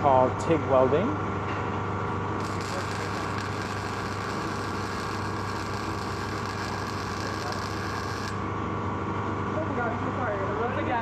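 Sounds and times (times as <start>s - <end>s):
machine hum with tones: 0.0s - 10.9s.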